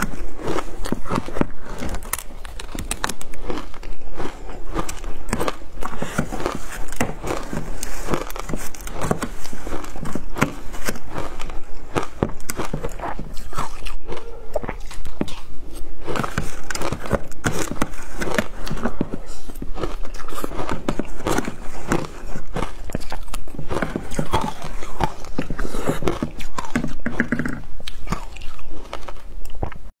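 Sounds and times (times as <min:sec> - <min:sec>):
crunching shaved ice: 0:00.0 - 0:29.8.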